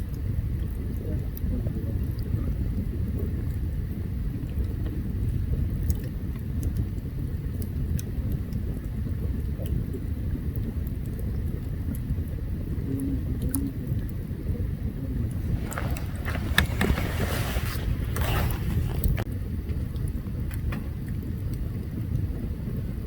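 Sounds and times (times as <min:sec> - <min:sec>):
fire low rumble: 0:00.0 - 0:23.0.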